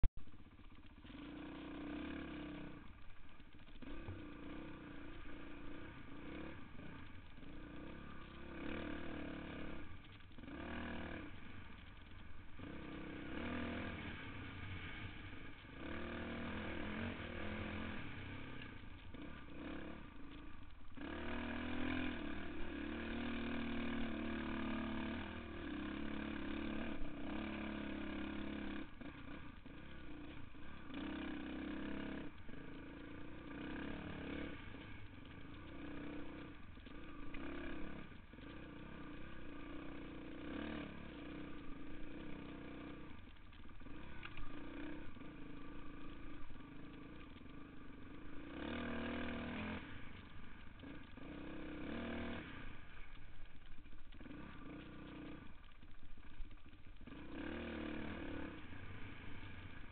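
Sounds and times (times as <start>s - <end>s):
dirt bike engine revving: 1.0s - 3.0s, 3.6s - 53.3s, 54.2s - 59.9s.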